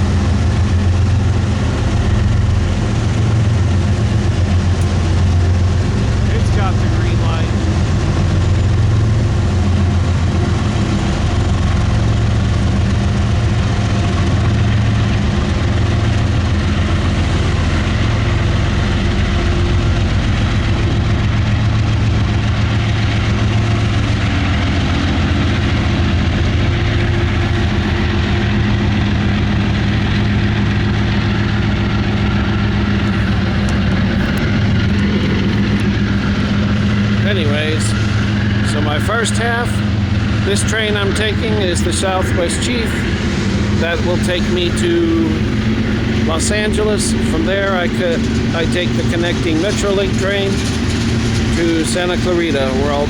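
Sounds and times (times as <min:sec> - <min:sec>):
diesel locomotive engine drone: 0:00.0 - 0:53.0
train noise: 0:00.0 - 0:53.0.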